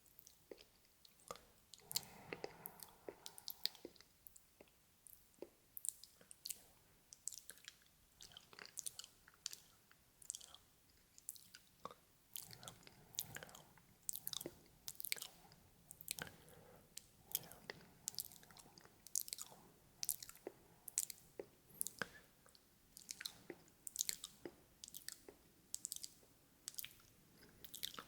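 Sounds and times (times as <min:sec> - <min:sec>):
wet lip and tongue clicks: 0:00.1 - 0:16.4, 0:17.0 - 0:28.0.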